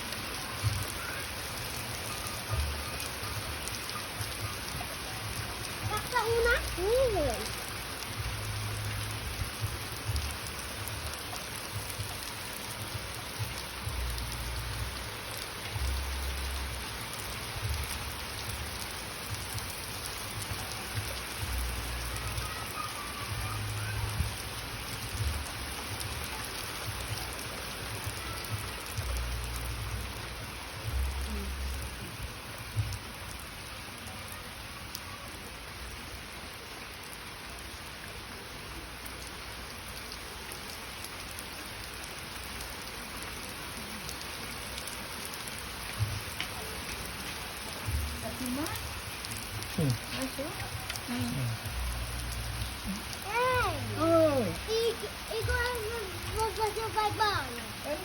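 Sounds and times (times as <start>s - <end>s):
rain falling: 0.0s - 58.0s
raindrops ticking on surfaces: 0.0s - 58.0s.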